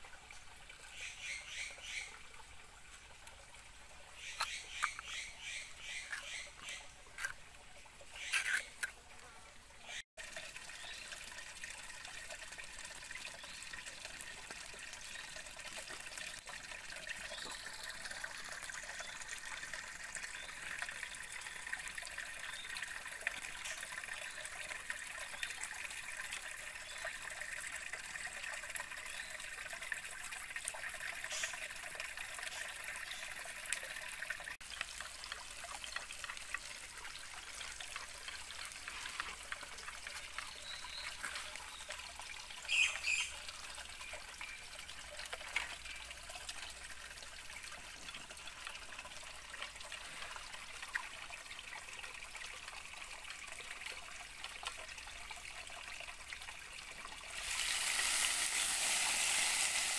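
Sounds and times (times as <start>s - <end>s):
shallow stream trickling: 0.0s - 59.9s.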